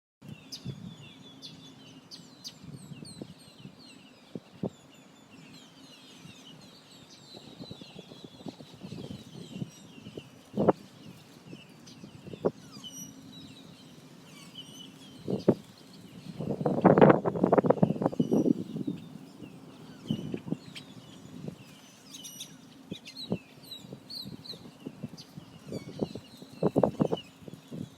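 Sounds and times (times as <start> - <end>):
small birds chirping and twittering: 0.2 - 27.9
lower louder bird calls: 0.3 - 27.9.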